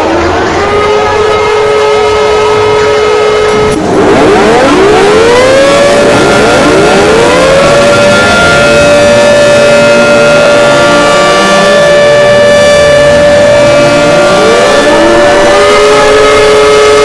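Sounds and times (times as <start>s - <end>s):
sirens winding up: 0.0s - 17.0s
steady siren tone: 0.0s - 17.0s.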